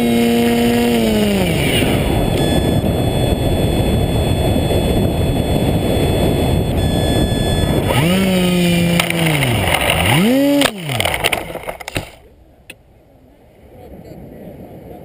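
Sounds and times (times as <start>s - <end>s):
model plane motor whining: 0.0s - 12.2s
wind rushing over camera: 0.0s - 12.2s, 13.3s - 15.0s.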